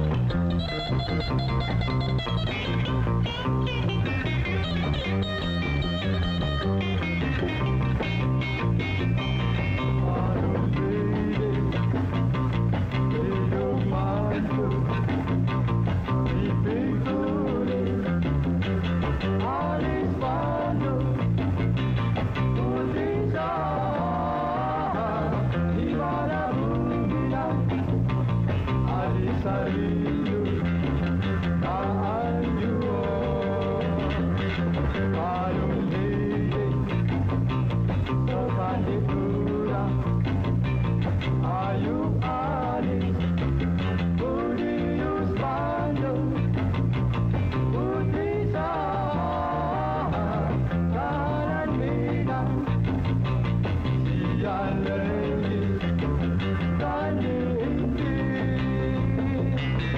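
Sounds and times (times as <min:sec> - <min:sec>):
live band with singer: 0:00.0 - 0:59.9.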